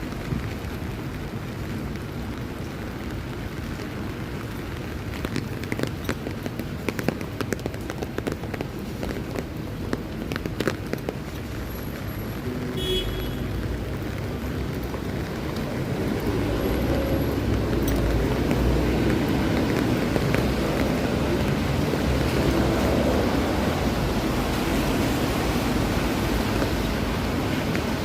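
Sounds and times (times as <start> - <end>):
sharp drips and ticks: 0.0 - 28.0
vehicle rumble: 0.0 - 28.0
rain hissing: 0.1 - 28.0.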